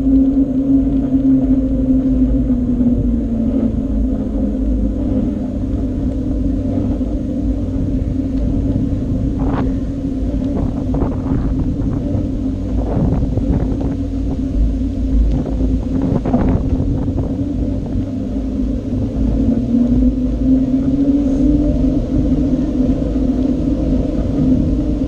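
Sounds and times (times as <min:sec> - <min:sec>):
bicycle tyre hum: 0:00.0 - 0:25.0
wind on microphone: 0:00.0 - 0:25.0.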